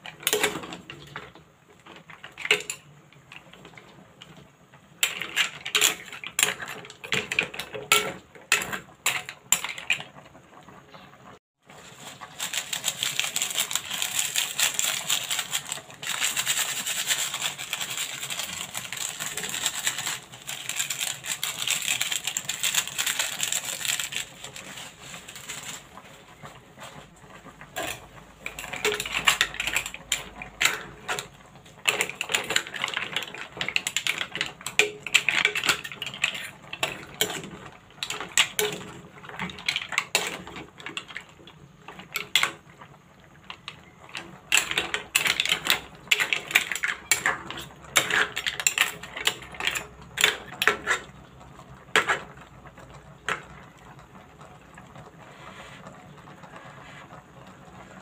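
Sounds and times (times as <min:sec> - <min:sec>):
mussel shells clattering in a pot: 0:00.0 - 0:10.3, 0:11.9 - 0:26.4, 0:27.6 - 0:54.4.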